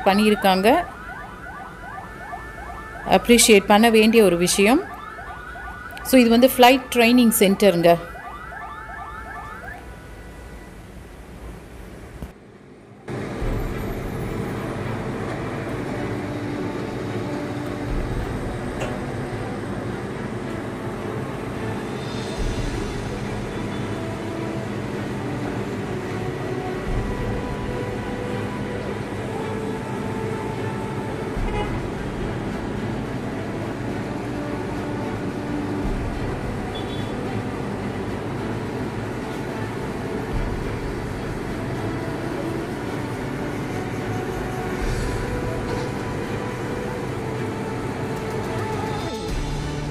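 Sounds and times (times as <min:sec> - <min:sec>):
large vehicle engine humming: 0:00.0 - 0:49.9
street traffic: 0:00.0 - 0:49.9.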